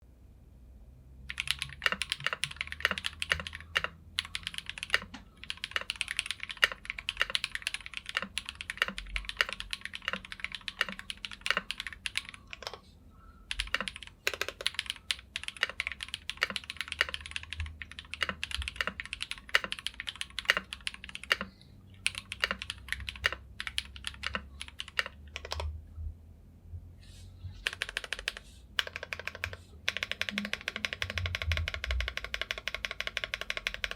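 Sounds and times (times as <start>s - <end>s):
mechanical keyboard typing: 1.3s - 12.8s, 13.5s - 25.7s, 27.6s - 33.9s.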